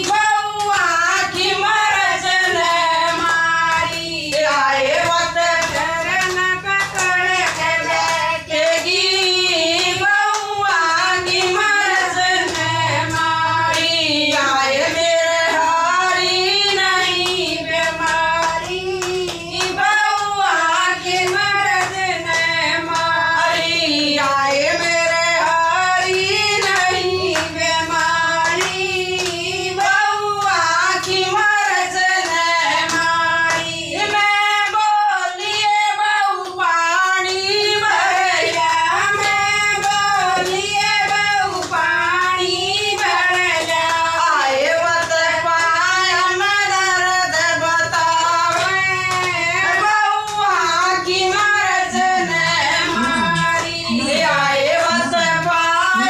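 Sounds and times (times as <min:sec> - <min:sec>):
rhythmic hand-clapping: 0:00.0 - 0:56.0
women singing devotional song: 0:00.0 - 0:56.0.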